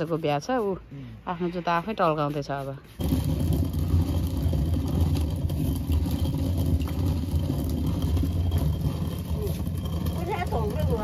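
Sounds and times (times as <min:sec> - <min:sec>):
stone quern grinding: 0:01.4 - 0:11.0.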